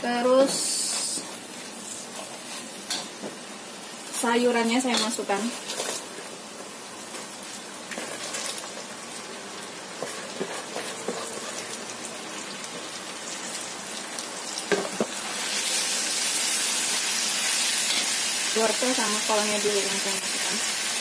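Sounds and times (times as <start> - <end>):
frying sizzle in a wok: 0.0 - 21.0.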